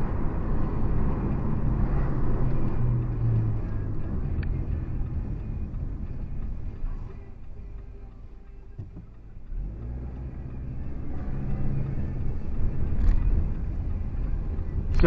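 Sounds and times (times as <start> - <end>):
car engine: 0.0 - 15.0
road rumble inside car: 0.0 - 15.0.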